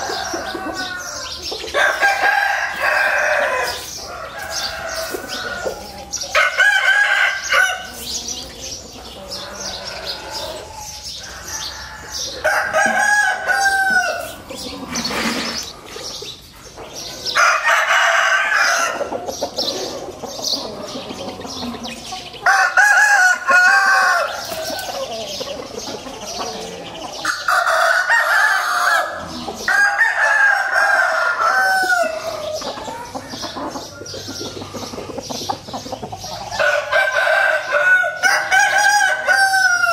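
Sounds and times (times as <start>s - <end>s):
roosters crowing: 0.0s - 39.9s.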